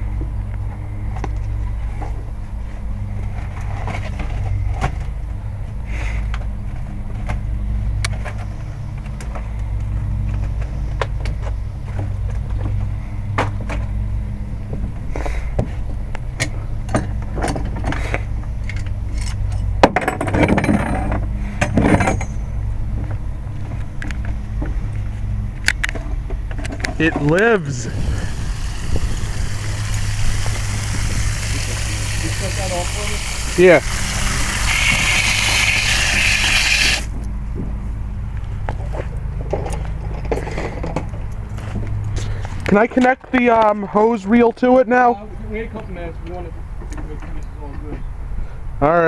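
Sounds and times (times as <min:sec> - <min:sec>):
low machine hum: 0:00.0 - 0:42.4.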